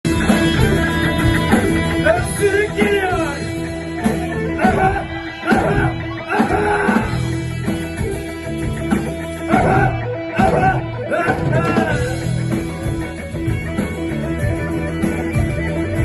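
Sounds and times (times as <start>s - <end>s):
rock music with bass and drums: 0.0s - 16.0s
electric guitar solo: 0.1s - 16.0s.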